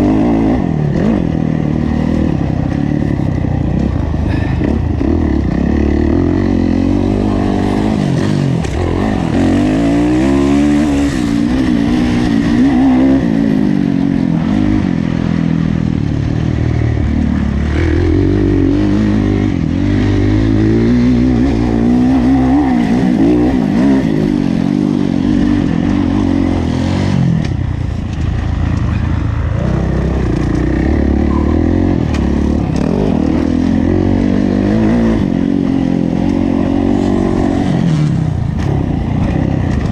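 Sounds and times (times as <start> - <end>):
motocross bike engine revving: 0.0 - 27.6, 28.4 - 39.9.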